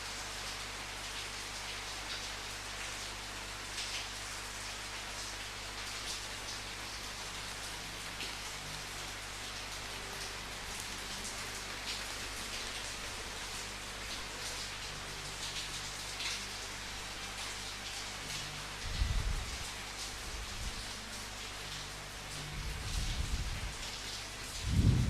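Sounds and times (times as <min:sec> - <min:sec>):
raindrops splashing: 0:00.0 - 0:25.0
steady rain hiss: 0:00.0 - 0:25.0.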